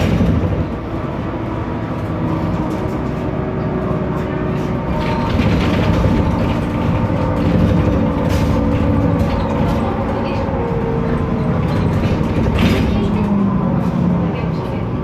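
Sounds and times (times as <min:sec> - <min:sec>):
bus diesel engine: 0:00.0 - 0:15.0
road noise: 0:00.0 - 0:15.0.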